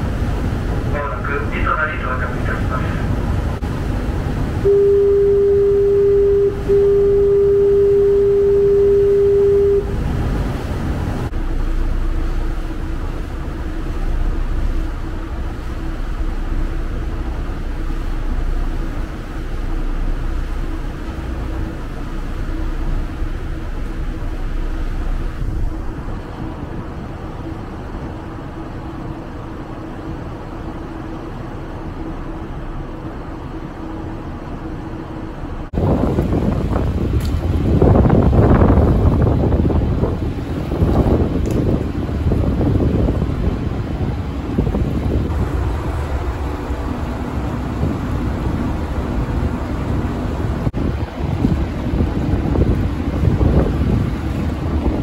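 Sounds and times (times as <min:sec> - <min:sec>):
low engine rumble: 0:00.0 - 0:55.0
ship's horn long note: 0:00.2 - 0:55.0.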